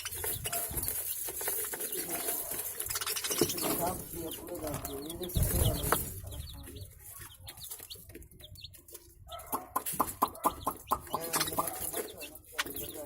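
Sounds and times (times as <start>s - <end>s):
birds chirping: 0.0s - 13.0s
bird clucking notes: 2.0s - 13.0s.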